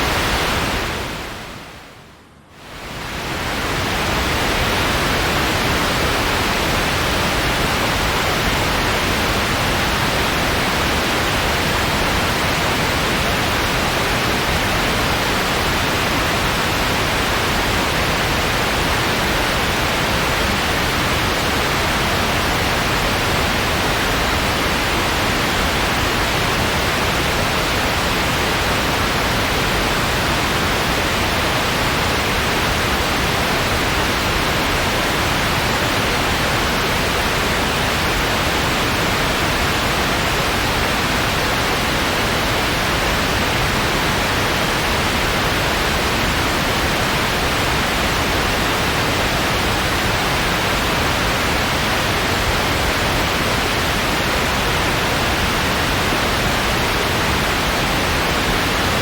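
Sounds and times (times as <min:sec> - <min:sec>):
steady white noise: 0:00.0 - 0:59.0.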